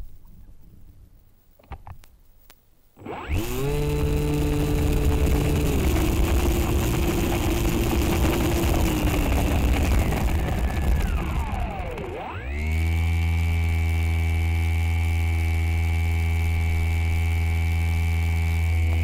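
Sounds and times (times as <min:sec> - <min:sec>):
drone motor buzzing: 0:03.0 - 0:19.0.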